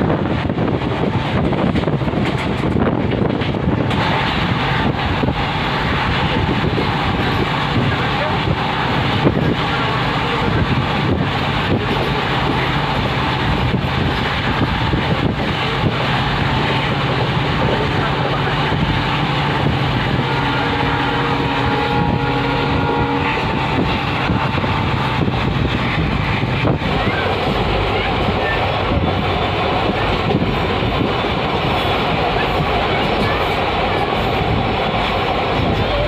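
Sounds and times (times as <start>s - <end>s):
train rumble inside coach: 0.0s - 36.0s
wind buffeting microphone: 0.0s - 36.0s.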